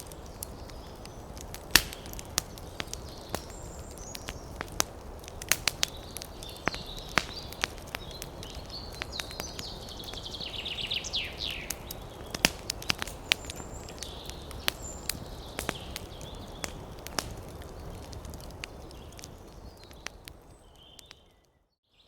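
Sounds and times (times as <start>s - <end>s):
wood fire crackling: 0.0s - 21.6s.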